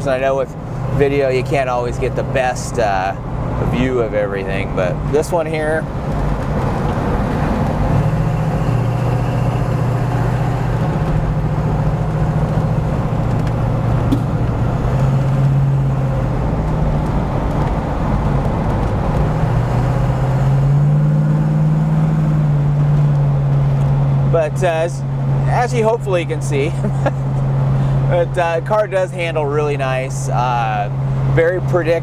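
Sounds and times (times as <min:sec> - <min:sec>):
car engine exhaust note: 0:00.0 - 0:32.0
road and tyre noise: 0:00.0 - 0:32.0.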